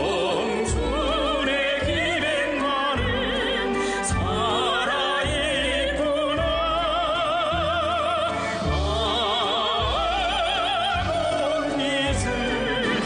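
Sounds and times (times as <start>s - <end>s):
orchestral accompaniment: 0.0s - 13.0s
person singing with vibrato: 0.0s - 13.0s.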